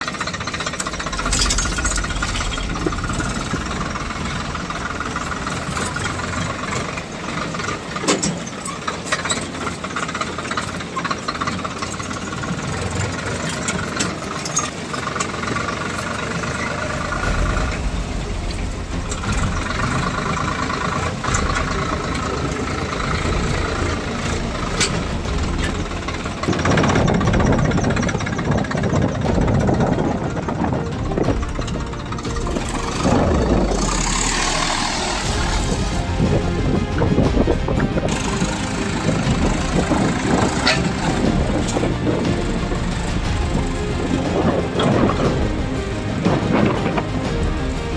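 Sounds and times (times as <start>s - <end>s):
clanks and rattles: 0.0s - 47.9s
tractor diesel engine running: 0.0s - 47.9s.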